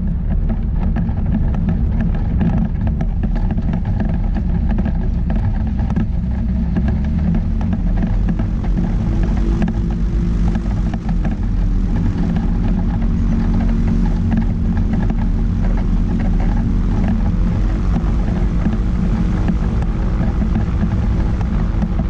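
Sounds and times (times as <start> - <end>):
light aircraft engine and propeller: 0.0 - 22.0.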